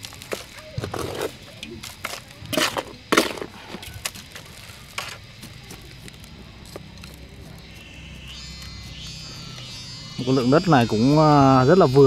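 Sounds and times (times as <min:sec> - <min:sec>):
faint steady buzz: 0:00.0 - 0:12.0.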